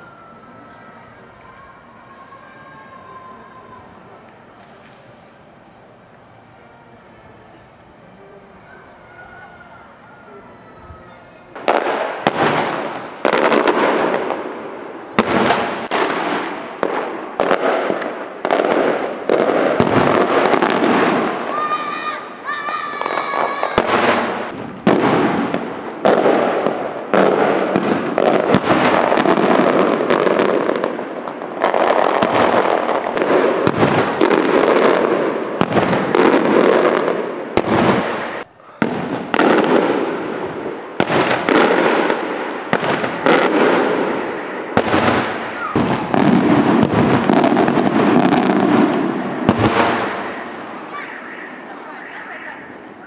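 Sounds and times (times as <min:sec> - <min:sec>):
fireworks bangs echoing: 0:08.6 - 0:53.0.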